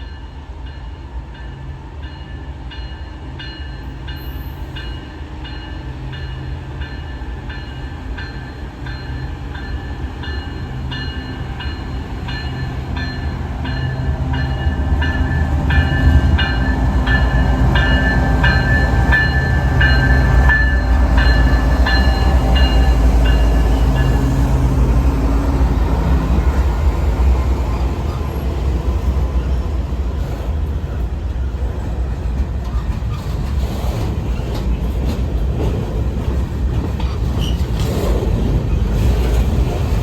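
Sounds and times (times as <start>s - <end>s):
train rumble: 0.0s - 40.0s.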